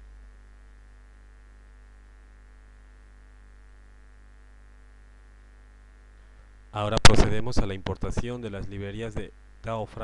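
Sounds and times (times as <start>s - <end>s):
faint electrical hum and buzz: 0.0s - 10.0s.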